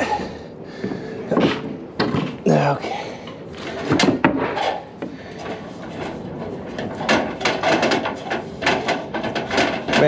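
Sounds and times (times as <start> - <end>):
knocks and clatter of wood: 0.8 - 2.6, 3.6 - 10.0.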